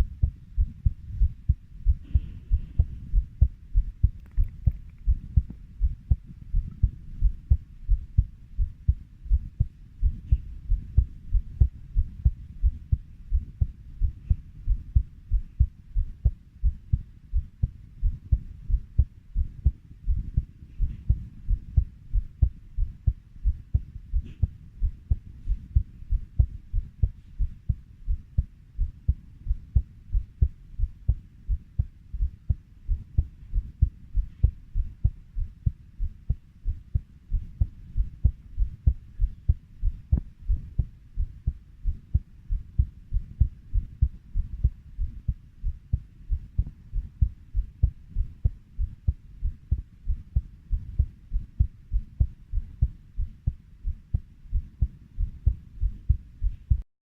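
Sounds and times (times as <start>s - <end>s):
heartbeat thudding: 0.0s - 56.8s.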